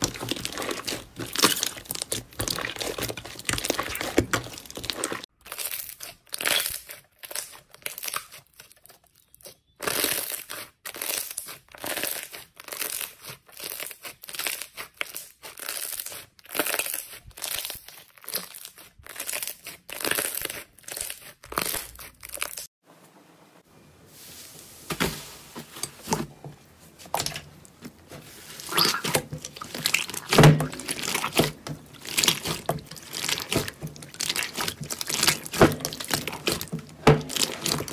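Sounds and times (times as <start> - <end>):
slime crackling and crunching: 0.0 - 22.7, 27.0 - 37.9.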